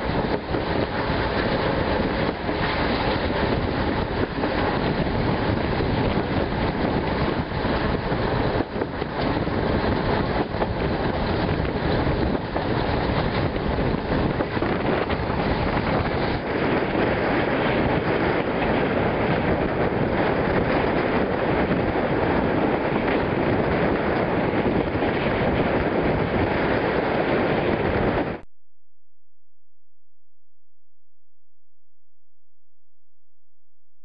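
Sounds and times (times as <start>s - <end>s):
passenger train running: 0.0s - 27.7s
wind rushing over microphone: 0.0s - 28.4s.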